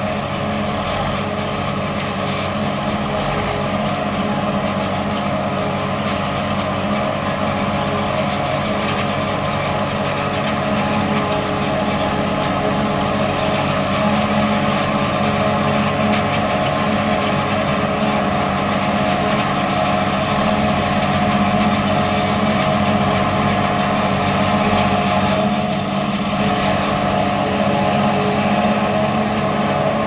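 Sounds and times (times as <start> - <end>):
steady pitched whine: 0.0 - 30.0
tractor engine drone: 0.0 - 30.0.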